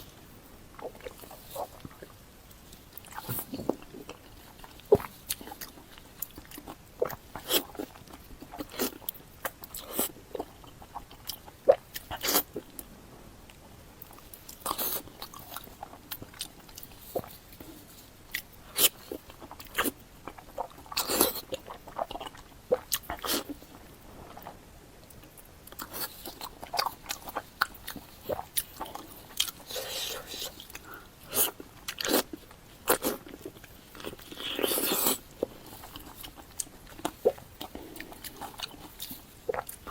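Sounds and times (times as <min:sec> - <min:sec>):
person chewing and smacking: 0:00.1 - 0:12.9, 0:13.5 - 0:39.9.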